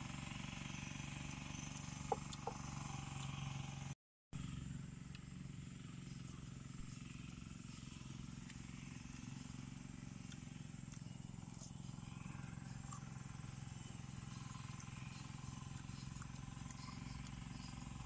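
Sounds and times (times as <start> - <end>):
low mechanical hum: 0.0 - 18.0
crunching and chewing: 1.2 - 3.6, 5.0 - 18.0.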